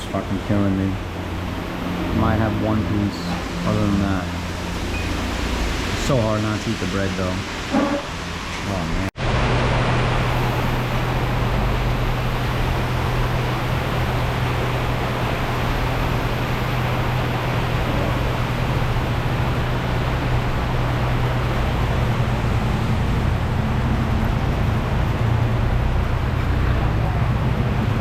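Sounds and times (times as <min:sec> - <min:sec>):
wind and rain hiss: 0:00.0 - 0:28.0.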